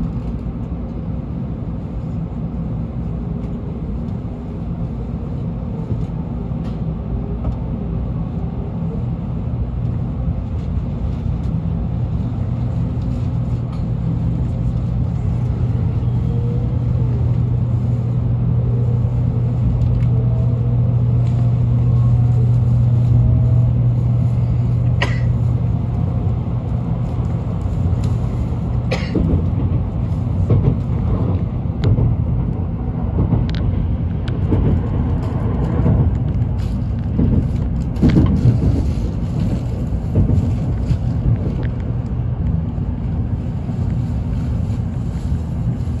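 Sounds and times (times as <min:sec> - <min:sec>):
rumble of running train: 0:00.0 - 0:46.0
train low hum: 0:00.0 - 0:46.0.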